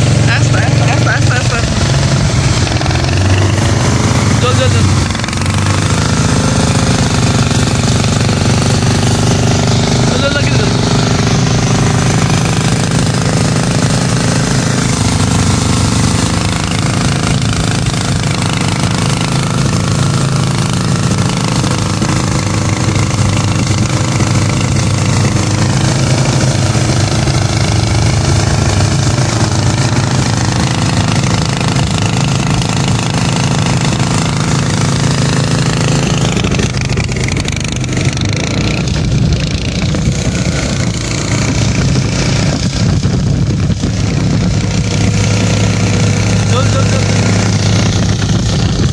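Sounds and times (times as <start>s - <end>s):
small petrol engine running: 0.0s - 48.9s.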